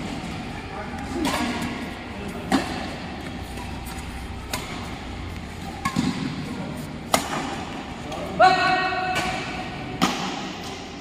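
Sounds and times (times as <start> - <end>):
racket hitting shuttlecock: 1.0 - 8.3, 8.9 - 11.0.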